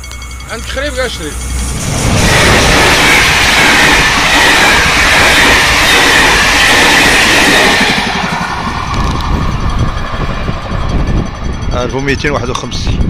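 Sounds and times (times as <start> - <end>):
train wheels roaring on rail: 0.0 - 13.0.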